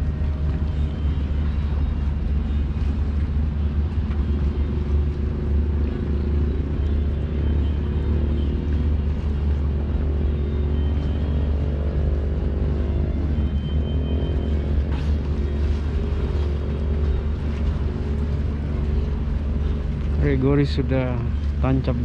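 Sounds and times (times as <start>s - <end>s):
ship engines droning rumble: 0.0s - 22.0s.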